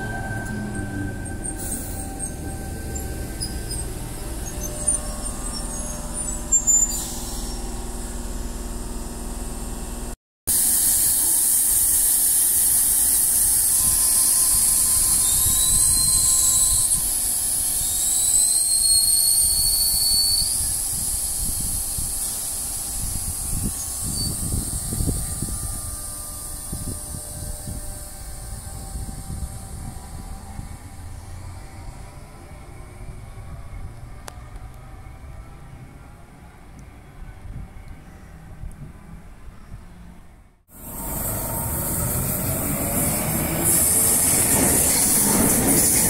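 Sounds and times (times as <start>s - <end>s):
train hissing and squealing: 0.0s - 9.2s, 10.5s - 34.1s, 40.7s - 46.0s
train rumble: 0.0s - 46.0s.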